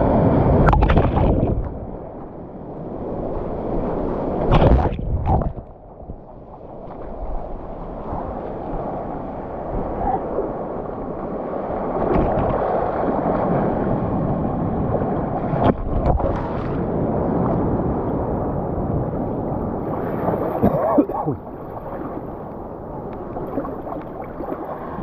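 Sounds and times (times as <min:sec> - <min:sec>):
wind buffeting microphone: 0:00.0 - 0:25.0
muffled water sloshing: 0:00.5 - 0:25.0.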